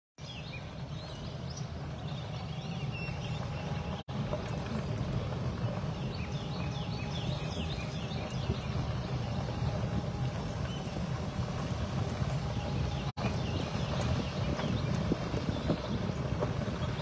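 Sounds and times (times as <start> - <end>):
small birds chirping: 0.2 - 17.0
steady low rumble: 0.2 - 17.0.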